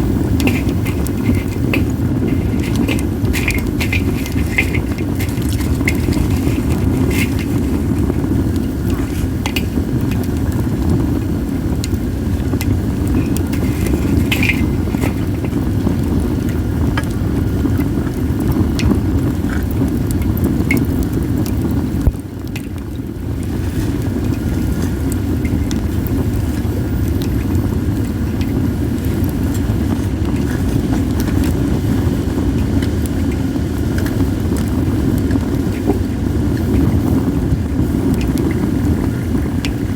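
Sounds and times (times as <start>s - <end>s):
wind rumbling on microphone: 0.0s - 39.9s
wood fire crackling and popping: 0.0s - 39.9s.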